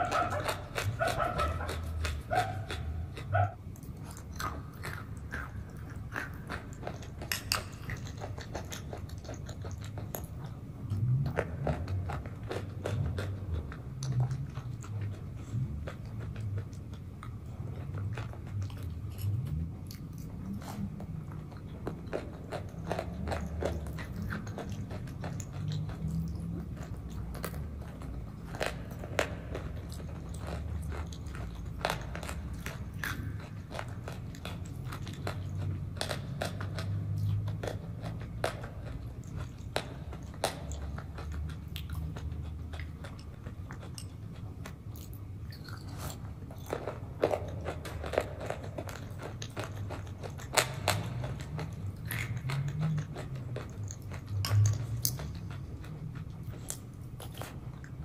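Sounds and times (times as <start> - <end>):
wet chewing and mouth smacks: 0.0 - 58.0.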